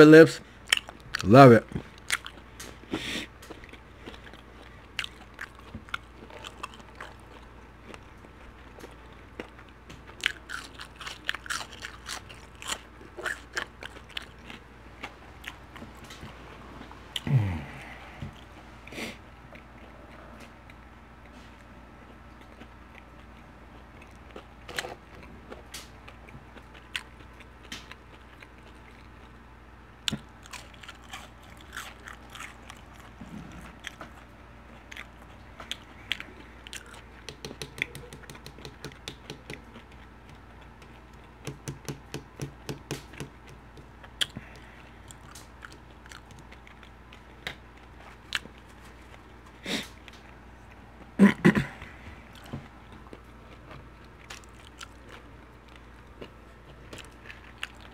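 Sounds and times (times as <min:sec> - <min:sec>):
chewing crispy food: 0:00.4 - 0:41.6, 0:43.1 - 0:57.9.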